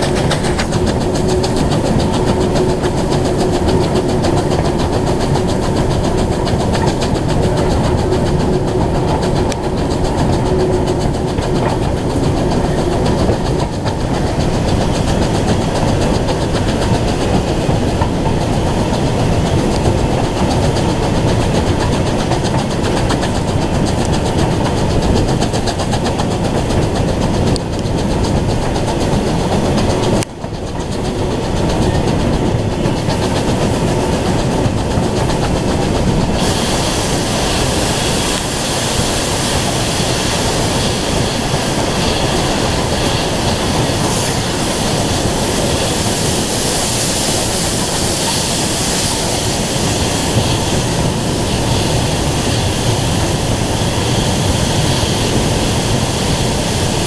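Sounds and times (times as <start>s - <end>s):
steam hiss: 0.0s - 57.0s
steam train rolling and rumbling: 0.0s - 57.0s.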